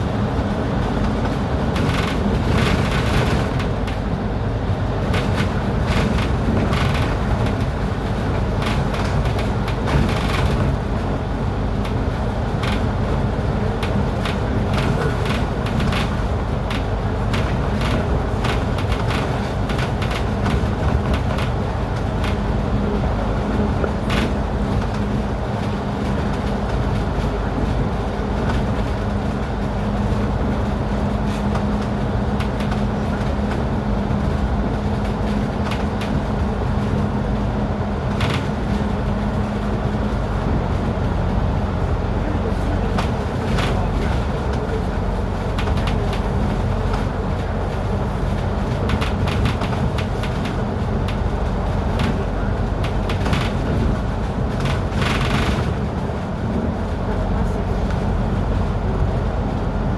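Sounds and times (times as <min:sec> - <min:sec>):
engine and road noise rumble: 0:00.0 - 0:59.9.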